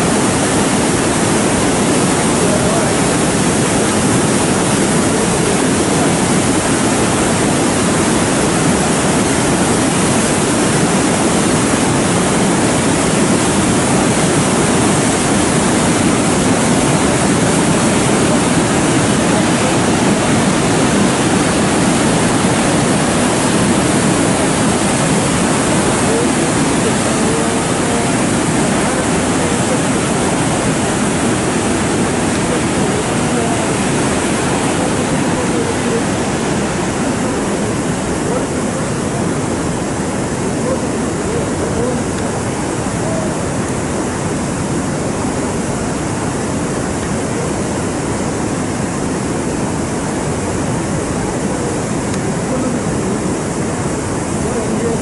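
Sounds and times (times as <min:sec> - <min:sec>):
water rushing over a weir: 0:00.0 - 0:55.0.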